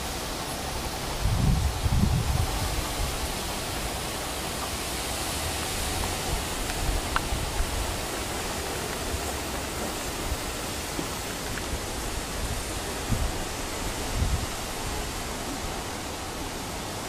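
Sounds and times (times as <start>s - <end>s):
wind on microphone: 0.8s - 17.0s.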